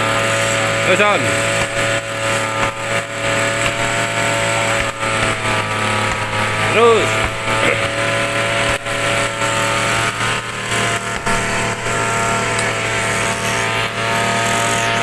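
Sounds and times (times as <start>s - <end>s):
small engine droning: 0.0s - 15.0s
fists hitting punching bag: 1.0s - 13.4s.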